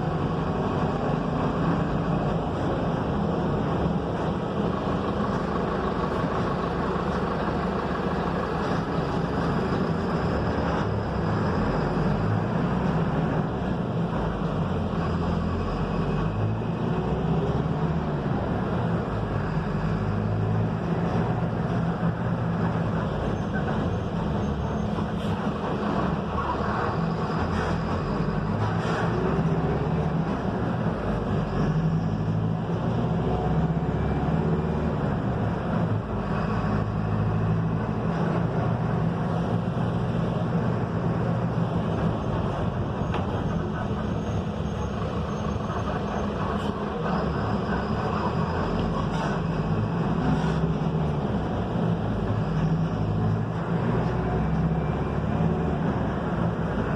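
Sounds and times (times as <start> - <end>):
bus engine hum: 0.0 - 56.9
road and tyre noise: 0.0 - 56.9.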